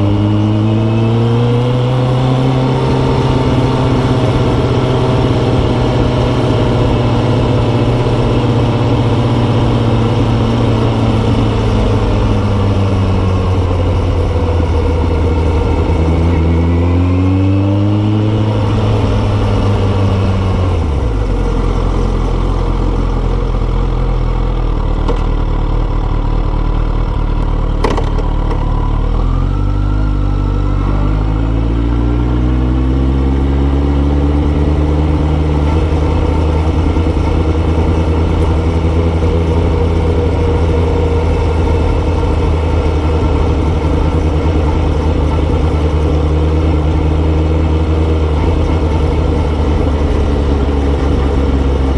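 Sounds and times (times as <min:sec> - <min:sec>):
motorcycle engine while riding: 0:00.0 - 0:51.9.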